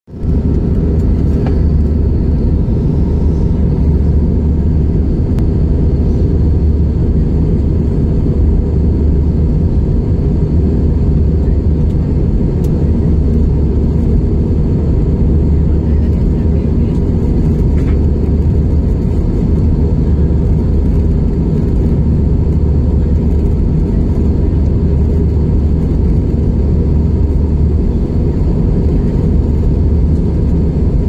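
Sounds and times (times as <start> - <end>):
airliner cabin engine rumble: 0.1 - 31.0.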